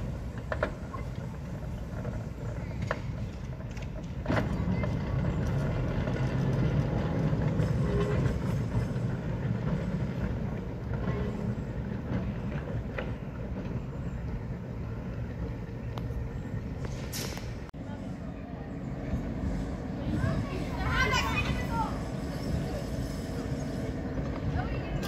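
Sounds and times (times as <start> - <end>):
tram motors rumbling: 0.0 - 25.0
wheels clicking on rails: 0.0 - 25.0.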